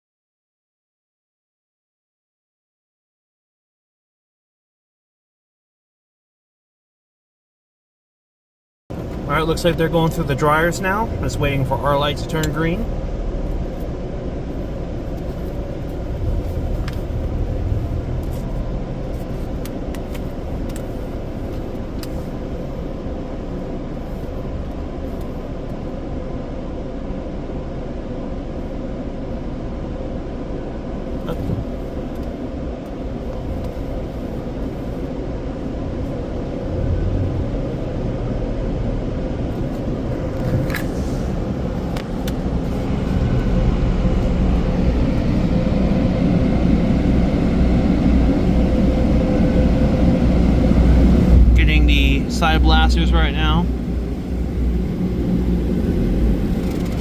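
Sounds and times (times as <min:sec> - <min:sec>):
car wash dryer blowers rushing: 0:08.9 - 0:57.0.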